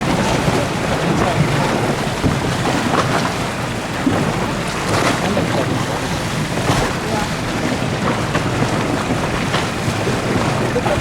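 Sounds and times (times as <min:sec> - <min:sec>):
dinghy moving on water: 0:00.0 - 0:11.0
wind buffeting microphone: 0:00.0 - 0:11.0.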